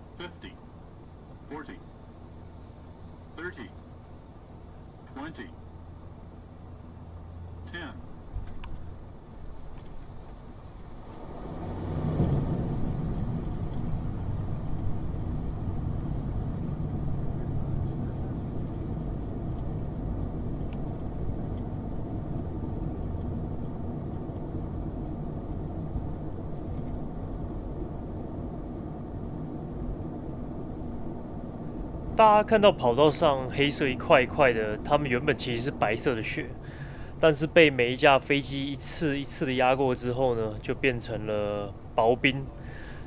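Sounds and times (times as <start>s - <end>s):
aircraft engines and wheels rumbling: 0.0s - 43.0s
steady low hum: 0.0s - 43.0s.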